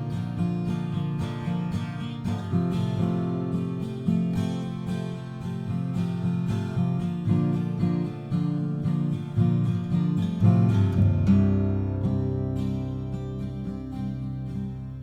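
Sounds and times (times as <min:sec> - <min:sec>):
acoustic guitar picking and strumming: 0:00.0 - 0:15.0.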